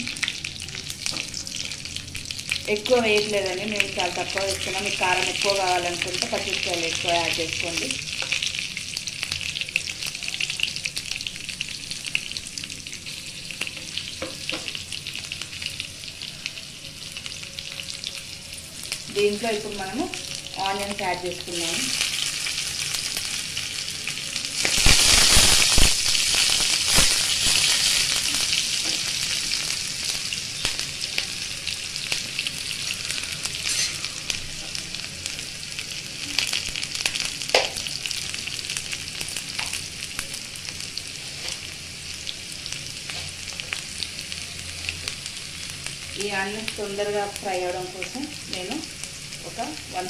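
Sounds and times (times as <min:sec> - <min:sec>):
onions sizzling in hot oil: 0:00.0 - 0:50.0.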